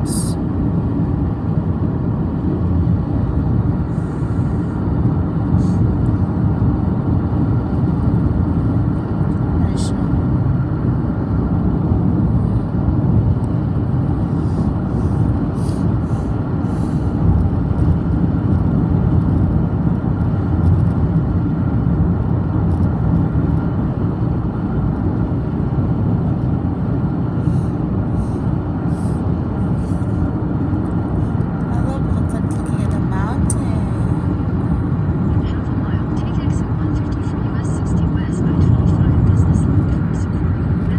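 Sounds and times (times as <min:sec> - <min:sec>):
car road and engine noise: 0:00.0 - 0:40.9.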